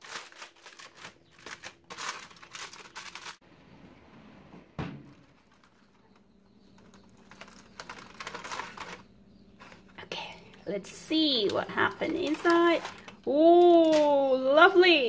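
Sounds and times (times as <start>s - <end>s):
aluminium foil crinkling: 0.0s - 3.4s, 5.2s - 10.1s, 11.2s - 15.0s.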